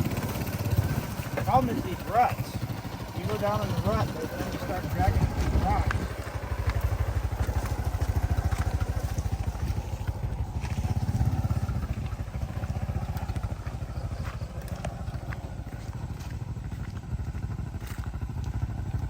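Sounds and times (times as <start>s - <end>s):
motorcycle engine under load: 0.0s - 19.0s
light knocks over ruts: 0.2s - 19.0s.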